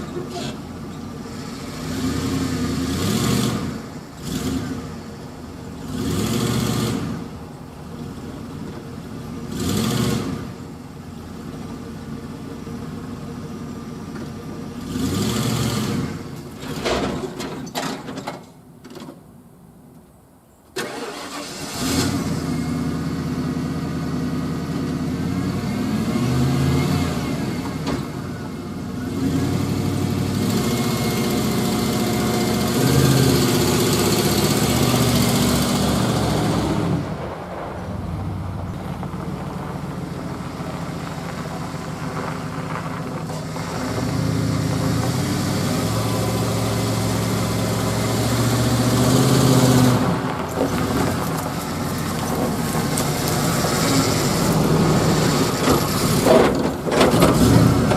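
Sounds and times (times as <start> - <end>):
truck engine running rough: 0.0 - 17.4, 22.1 - 57.9.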